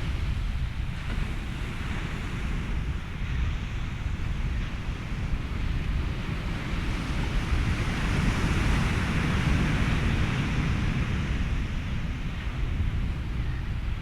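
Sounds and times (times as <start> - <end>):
ocean surf washing: 0.0 - 14.0
wind: 0.0 - 14.0.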